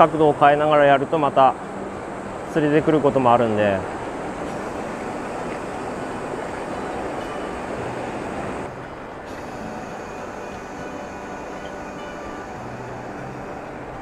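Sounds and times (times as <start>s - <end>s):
river current rushing: 0.0s - 14.0s.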